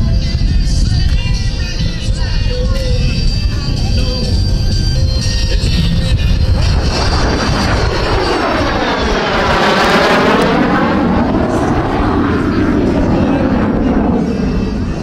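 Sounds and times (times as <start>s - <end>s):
jet aircraft passing: 1.5s - 15.0s.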